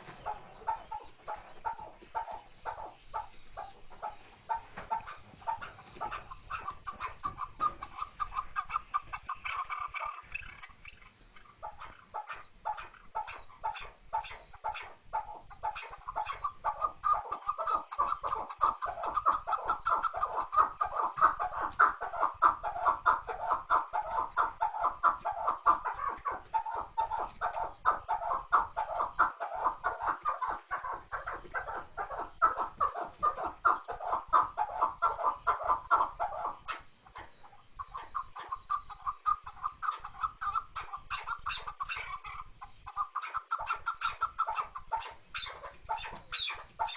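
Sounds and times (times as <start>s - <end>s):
partridge calling chuck notes: 0.0s - 46.9s.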